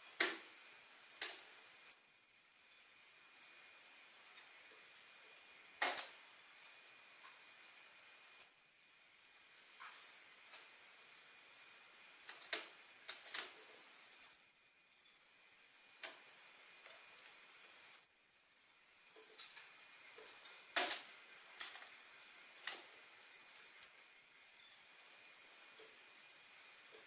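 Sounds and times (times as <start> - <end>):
high insect-like trill: 0.0 - 27.0.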